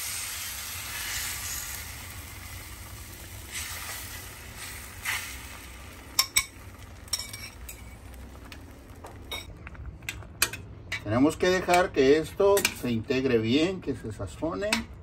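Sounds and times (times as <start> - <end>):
eggs sizzling in a frying pan: 0.0 - 13.0.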